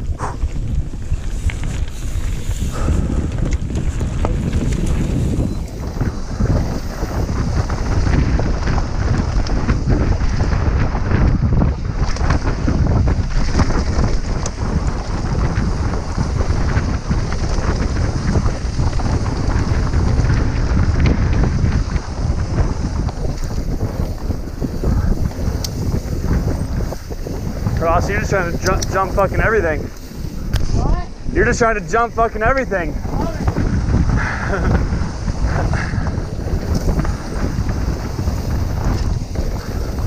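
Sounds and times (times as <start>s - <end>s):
bike rattling and clicking: 0.0s - 40.0s
bike tyres rumbling on dirt: 0.0s - 40.0s
wind buffeting microphone: 0.0s - 40.0s.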